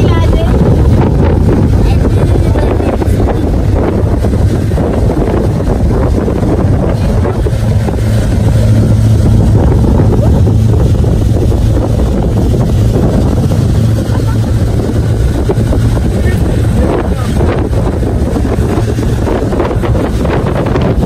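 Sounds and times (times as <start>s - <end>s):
motorboat engine droning: 0.0s - 21.0s
wind buffeting microphone: 0.0s - 21.0s.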